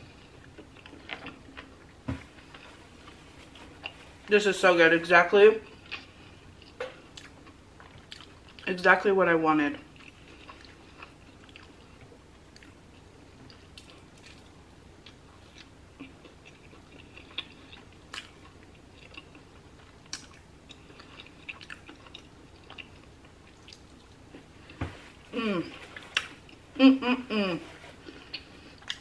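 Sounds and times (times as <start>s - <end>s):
person chewing: 0.0s - 4.1s, 5.6s - 8.7s, 9.9s - 26.7s, 27.9s - 29.0s.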